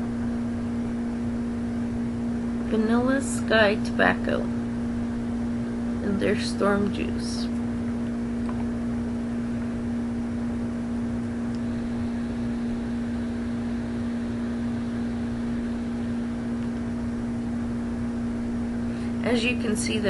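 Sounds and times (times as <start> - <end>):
steady hum with overtones: 0.0 - 20.0.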